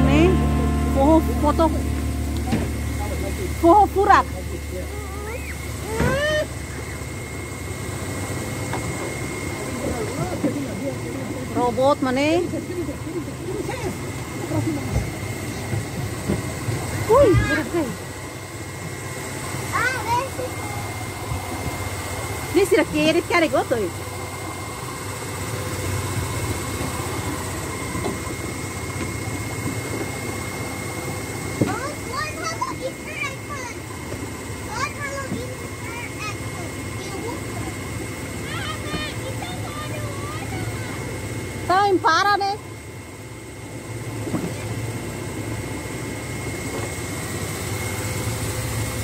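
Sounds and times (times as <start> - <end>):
high motor whine: 0.0 - 49.0
motorboat motor humming: 0.0 - 49.0.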